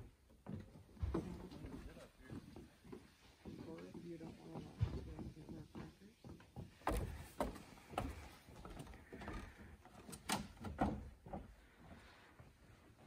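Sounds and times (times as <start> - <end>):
footsteps on wooden boardwalk: 0.0 - 13.0.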